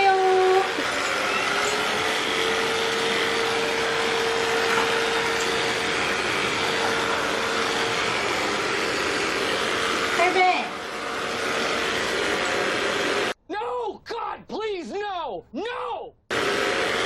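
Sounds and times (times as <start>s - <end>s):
vacuum cleaner running: 0.0s - 13.4s, 16.3s - 17.0s.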